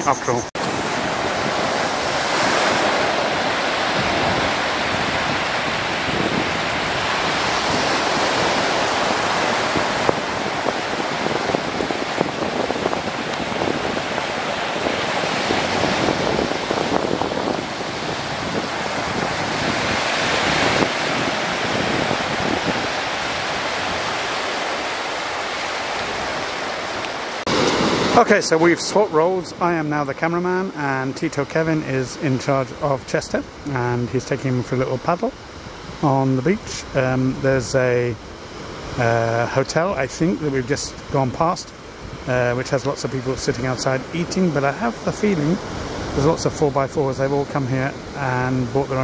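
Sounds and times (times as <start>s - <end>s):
small waves breaking on shore: 0.0s - 49.0s.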